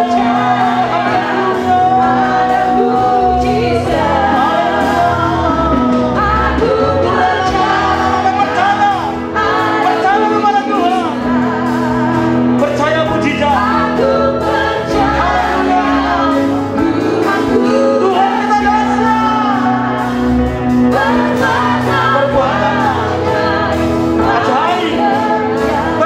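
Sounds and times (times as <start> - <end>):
keyboard chords: 0.0 - 26.0
man and women singing: 0.0 - 26.0.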